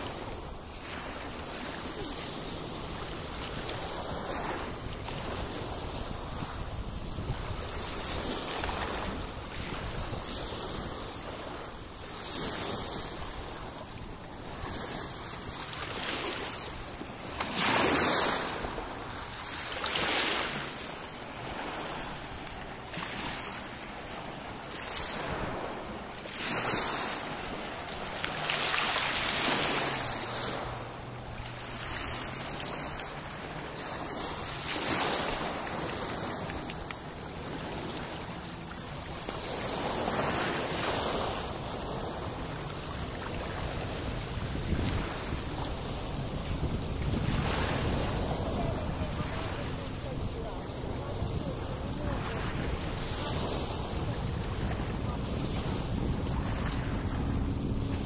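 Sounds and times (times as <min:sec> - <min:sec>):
sea water lapping and splashing: 0:00.0 - 0:58.0
wind on microphone: 0:00.0 - 0:58.0.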